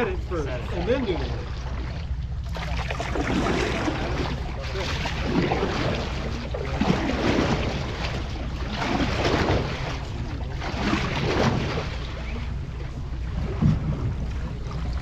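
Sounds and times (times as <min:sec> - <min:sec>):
paddles splashing in water: 0:00.0 - 0:15.0
water rushing along hull: 0:00.0 - 0:15.0.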